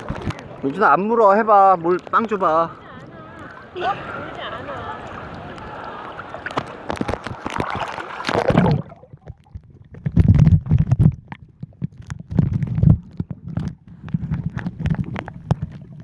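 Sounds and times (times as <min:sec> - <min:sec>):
seawater sloshing against microphone: 0:01.6 - 0:16.0.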